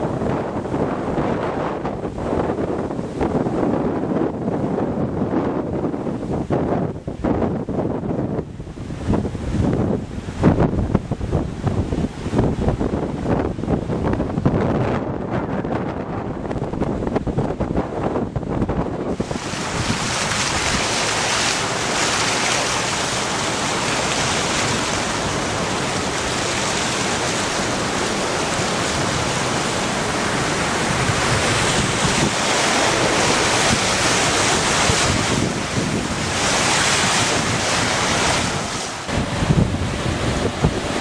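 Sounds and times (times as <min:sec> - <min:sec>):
rushing water: 0:00.0 - 0:41.0
wind buffeting microphone: 0:00.0 - 0:41.0.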